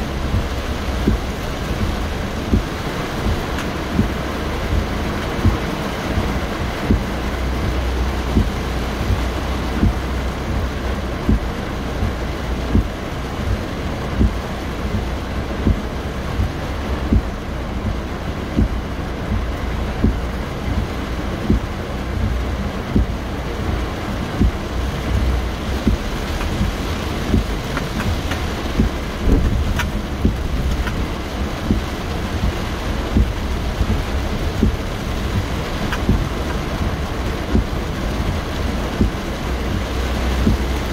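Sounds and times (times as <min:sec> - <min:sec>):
heavy rain drumming on car roof: 0:00.0 - 0:40.9
low car rumble: 0:00.0 - 0:40.9
windshield wipers sweeping: 0:00.0 - 0:40.9.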